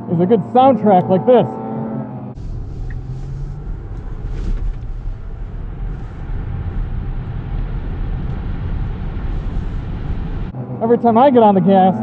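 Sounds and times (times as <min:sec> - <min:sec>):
snowmobile engine running: 0:00.0 - 0:10.5
snowmobile track noise: 0:00.0 - 0:12.0
wind: 0:00.0 - 0:12.0.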